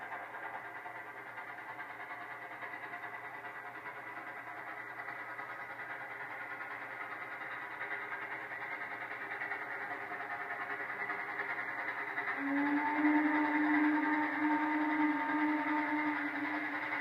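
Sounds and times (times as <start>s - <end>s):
steam locomotive exhaust chuffing: 0.0s - 17.0s.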